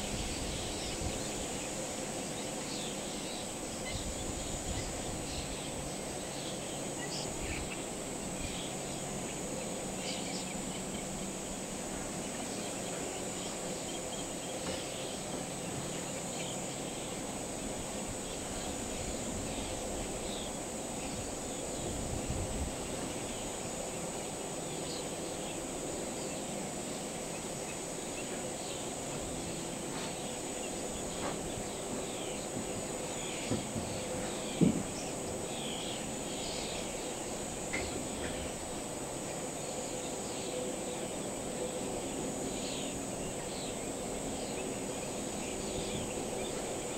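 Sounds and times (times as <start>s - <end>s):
high insect hum: 0.0s - 46.9s.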